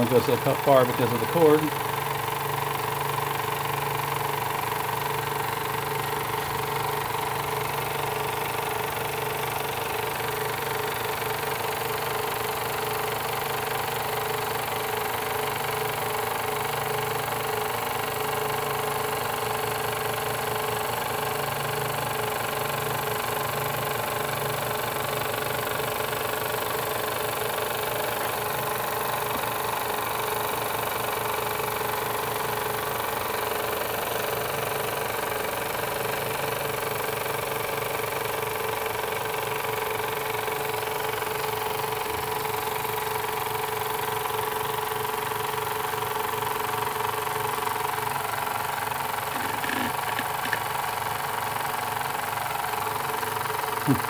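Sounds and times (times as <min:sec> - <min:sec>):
toy steam engines whirring and chuffing: 0:00.0 - 0:54.0.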